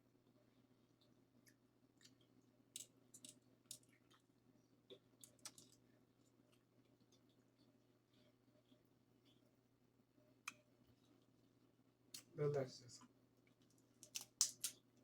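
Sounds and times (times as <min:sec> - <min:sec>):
small wet crackles: 0:00.4 - 0:12.4, 0:13.0 - 0:15.0.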